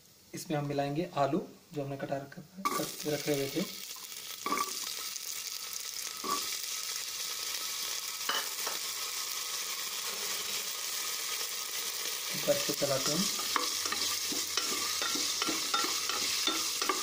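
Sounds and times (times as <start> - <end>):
potatoes sizzling in hot oil: 1.8 - 17.0.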